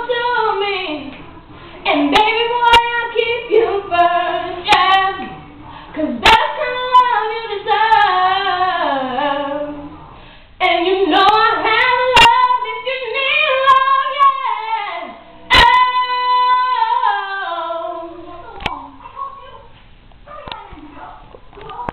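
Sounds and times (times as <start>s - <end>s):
girl singing a cappella: 0.0s - 9.9s, 10.6s - 18.9s.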